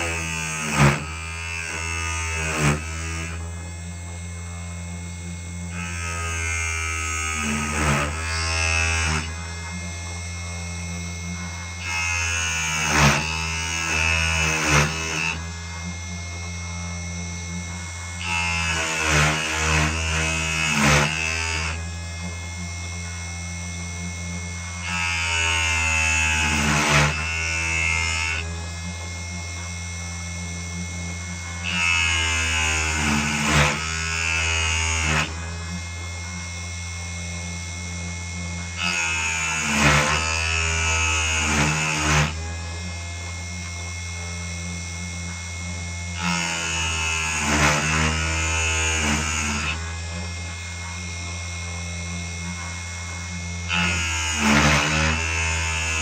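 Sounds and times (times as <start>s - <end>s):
lathe cutting passes: 0.0s - 56.0s
lathe motor hum: 0.0s - 56.0s.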